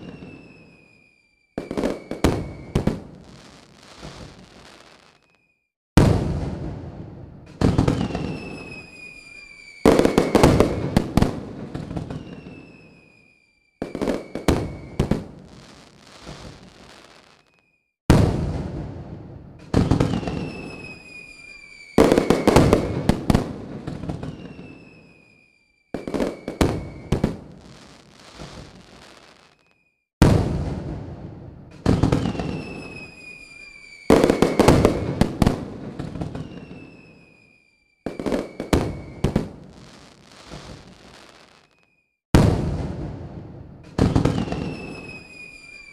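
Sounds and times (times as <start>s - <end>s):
fireworks falling whistles: 0.0s - 6.8s, 7.4s - 18.9s, 19.6s - 31.0s, 31.7s - 43.2s, 43.8s - 45.9s
fireworks bangs and crackling: 0.0s - 45.9s.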